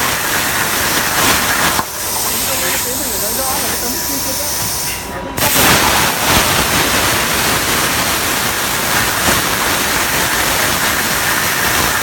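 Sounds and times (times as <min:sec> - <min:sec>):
plasma torch hissing: 0:00.0 - 0:12.0.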